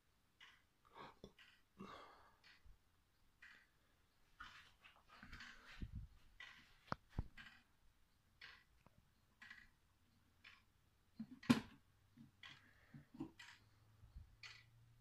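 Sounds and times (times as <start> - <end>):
pendulum clock ticking: 0.0 - 15.0.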